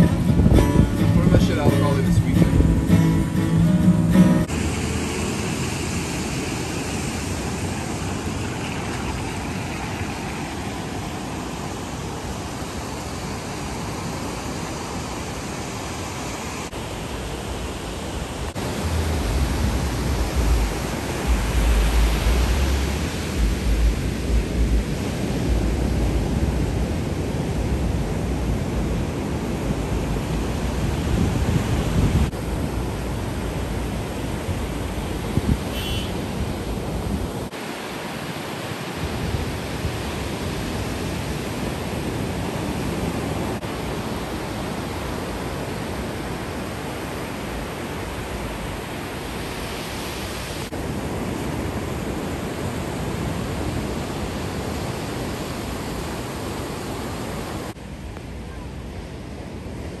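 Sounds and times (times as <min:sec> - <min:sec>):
waves breaking: 0:00.0 - 1:00.0
wind rumbling on microphone: 0:00.0 - 1:00.0.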